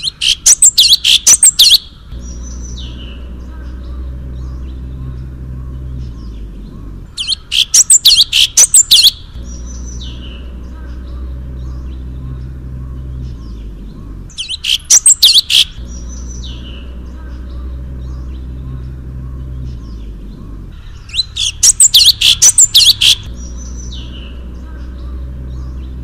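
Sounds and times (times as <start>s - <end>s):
faint scattered chirping: 0.0s - 26.0s
songbird rapid looping chirps: 0.0s - 26.0s
steady low hum: 0.0s - 26.0s.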